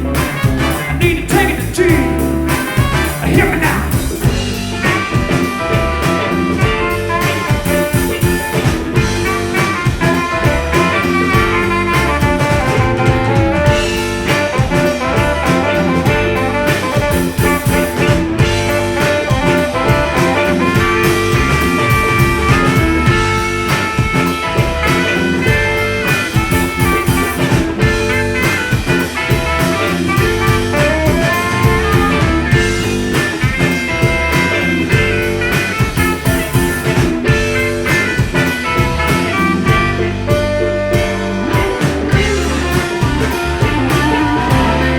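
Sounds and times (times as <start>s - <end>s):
lead instrument melody: 0.0s - 44.9s
live band playing swing tune: 0.0s - 44.9s.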